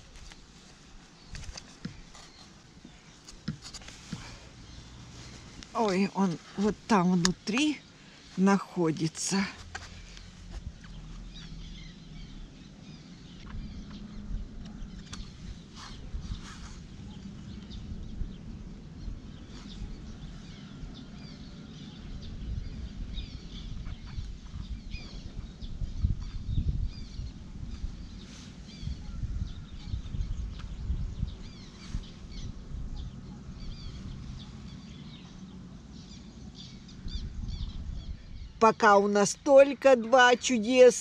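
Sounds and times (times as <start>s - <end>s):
small birds chirping and singing: 0.0s - 41.0s.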